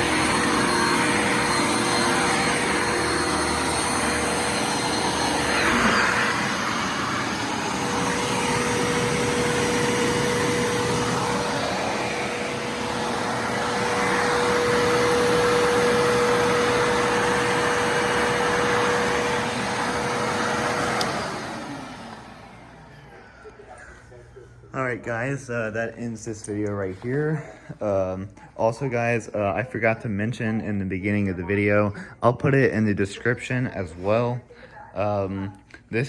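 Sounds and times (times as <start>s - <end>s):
vacuum cleaner running: 0.0s - 29.9s.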